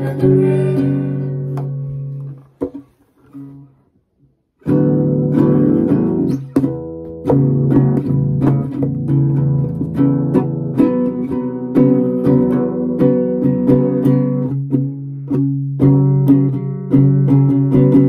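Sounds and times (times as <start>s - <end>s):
classical guitar playing: 0.0s - 18.0s.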